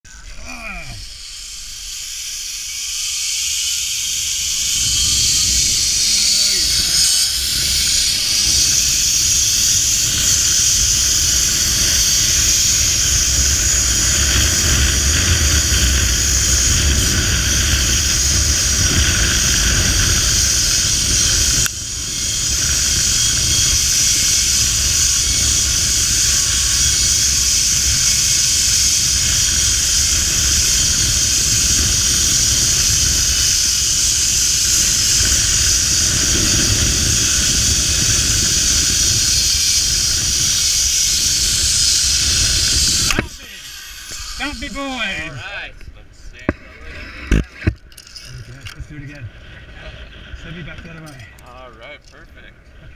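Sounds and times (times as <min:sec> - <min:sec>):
zip line pulleys hissing on cable: 0:00.1 - 0:45.5, 0:46.4 - 0:48.6
wind rushing over microphone: 0:03.6 - 0:47.8.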